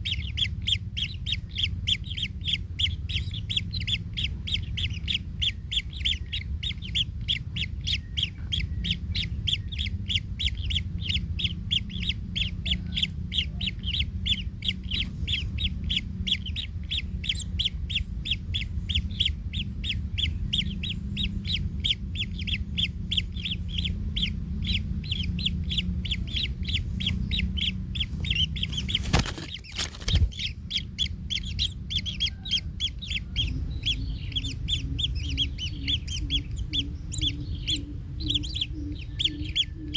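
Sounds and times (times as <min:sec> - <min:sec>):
low rumble: 0:00.0 - 0:39.9
nestlings chirping: 0:00.0 - 0:39.9.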